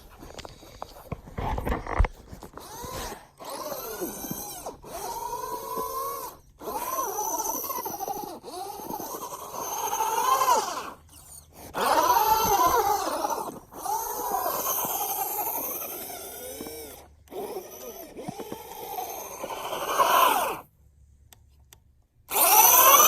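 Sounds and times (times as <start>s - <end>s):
rc truck electric motor whining: 0.0s - 20.7s, 22.3s - 23.0s.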